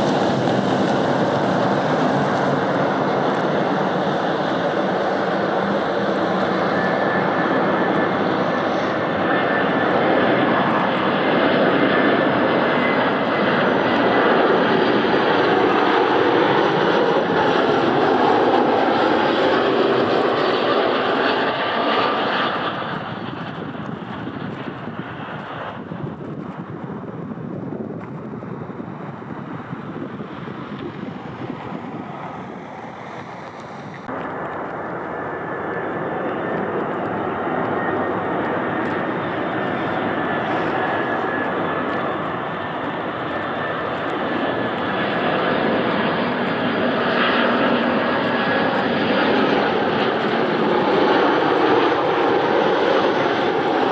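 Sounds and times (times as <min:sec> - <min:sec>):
airliner engines running: 0:00.0 - 0:53.9.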